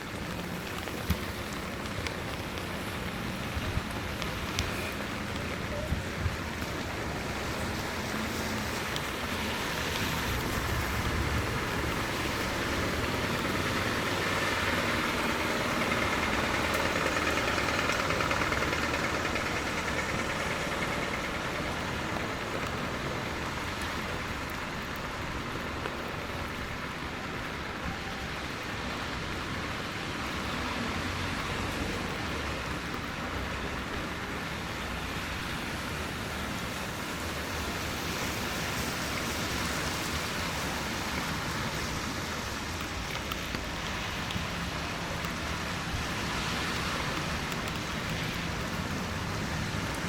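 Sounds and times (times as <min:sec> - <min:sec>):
rain hiss: 0:00.0 - 0:50.0
vehicle passing on wet road: 0:00.0 - 0:50.0.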